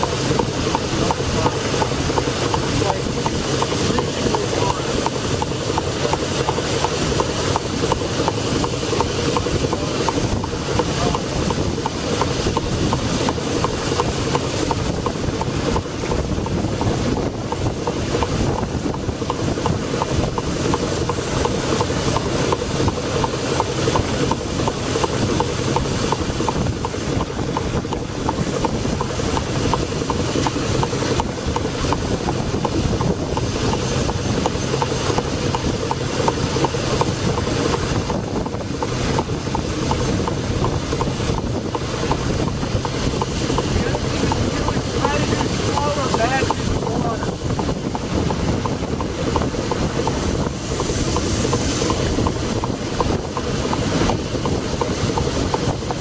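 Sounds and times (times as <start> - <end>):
steam engine running: 0.0 - 56.0.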